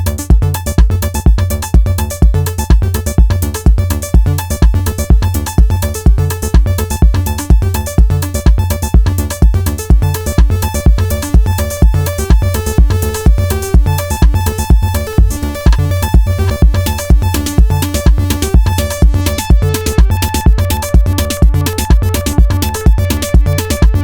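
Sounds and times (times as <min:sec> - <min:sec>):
drum machine kick and hi-hats: 0:00.0 - 0:24.0
sequenced synth lines: 0:00.0 - 0:24.0.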